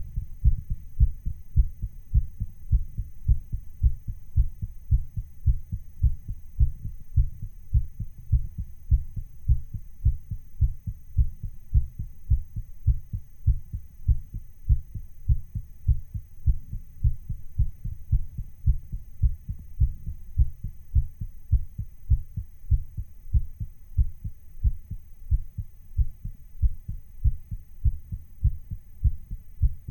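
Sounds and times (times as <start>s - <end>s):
heartbeat thuds: 0.0s - 29.9s.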